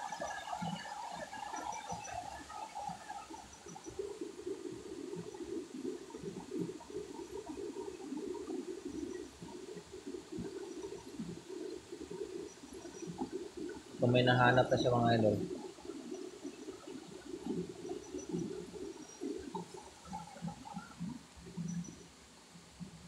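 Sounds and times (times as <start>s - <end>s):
faint insects: 0.0s - 23.0s
water running and gurgling: 0.0s - 23.0s.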